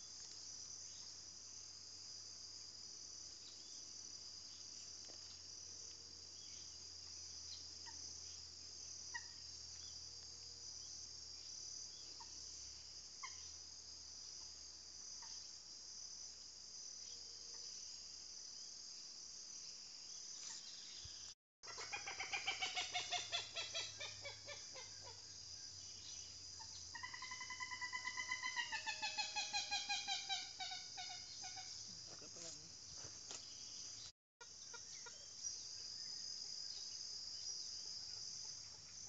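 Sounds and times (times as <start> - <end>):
crickets droning: 0.0 - 39.0.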